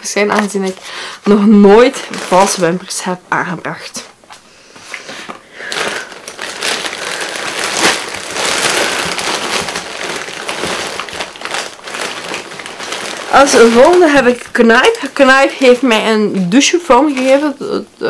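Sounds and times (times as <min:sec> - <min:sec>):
bag crinkling and rustling: 0:00.1 - 0:03.0, 0:05.0 - 0:17.9.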